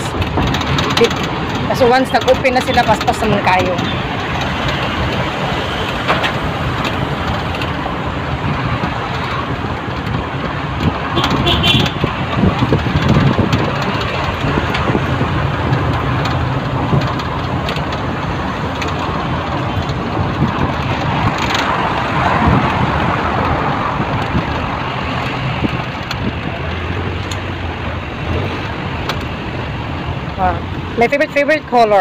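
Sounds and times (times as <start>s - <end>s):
road and wind hiss: 0.0s - 32.0s
road traffic engine rumble: 0.0s - 32.0s.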